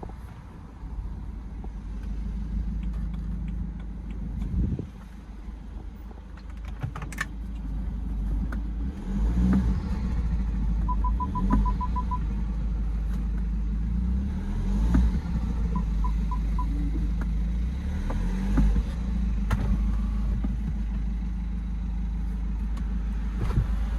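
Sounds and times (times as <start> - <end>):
diesel engine accelerating: 0.0 - 23.9.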